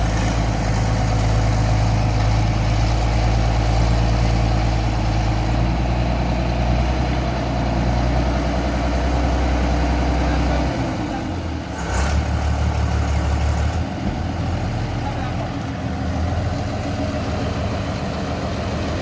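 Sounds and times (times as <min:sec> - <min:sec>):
heavy vehicle engine idling: 0:00.0 - 0:19.0.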